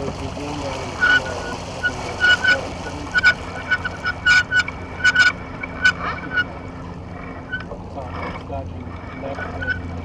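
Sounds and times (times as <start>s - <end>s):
low rush of wind and water: 0.0s - 10.0s
geese honking: 0.9s - 10.0s.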